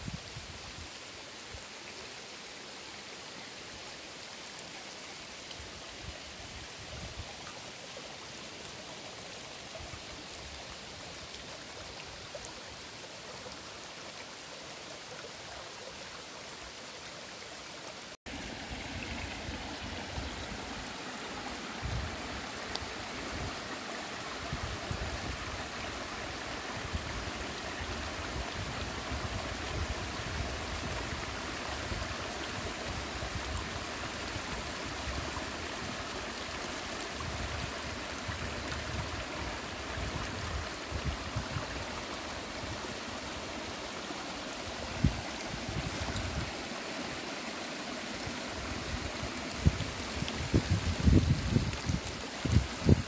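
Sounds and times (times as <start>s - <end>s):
stream running over rocks: 0.0s - 53.0s.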